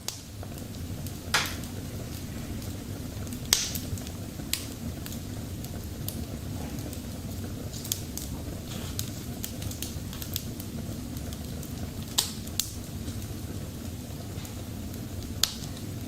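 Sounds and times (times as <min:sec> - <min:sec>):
kindling crackling and popping: 0:00.0 - 0:16.0.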